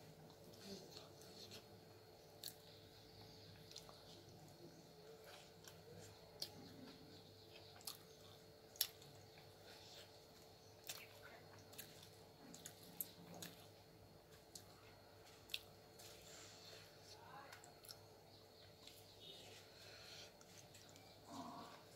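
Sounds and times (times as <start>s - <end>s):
soft chewing: 0.0s - 21.9s.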